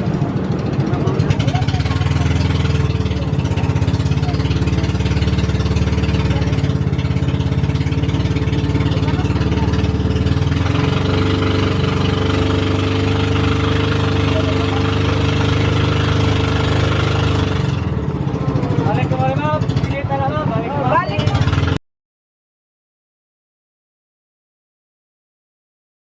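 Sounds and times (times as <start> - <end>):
boat engine running: 0.0 - 21.8.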